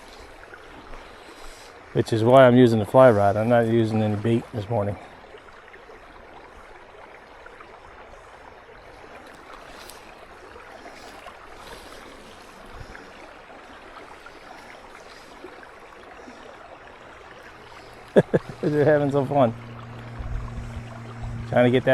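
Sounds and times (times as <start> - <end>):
running water: 0.0 - 21.9.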